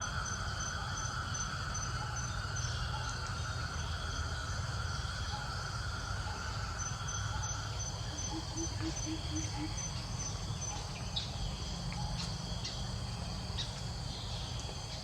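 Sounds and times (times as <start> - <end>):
insect drone: 0.0 - 15.0
insects chirping: 0.0 - 15.0.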